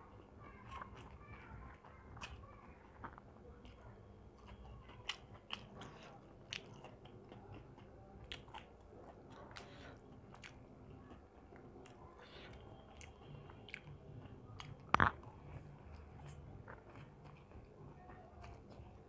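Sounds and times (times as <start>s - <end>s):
quiet chewing: 0.0s - 19.0s.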